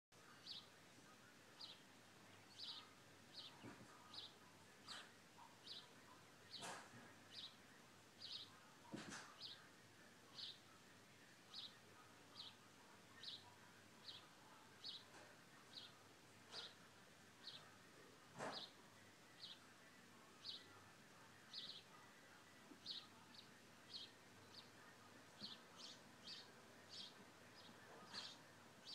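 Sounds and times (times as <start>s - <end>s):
bird chirping faintly: 0.2s - 28.9s.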